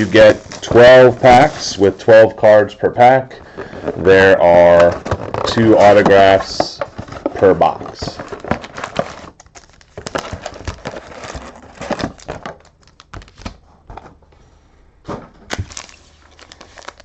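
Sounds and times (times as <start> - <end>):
plastic wrapping crinkling: 0.0 - 2.3, 3.4 - 13.7, 15.5 - 17.0.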